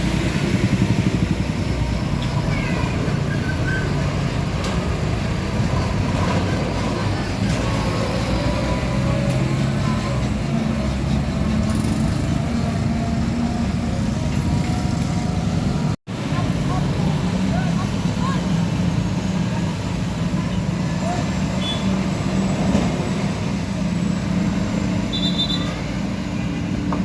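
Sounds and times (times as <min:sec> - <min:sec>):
heavy trucks passing: 0:00.0 - 0:27.0
road noise: 0:00.0 - 0:27.0.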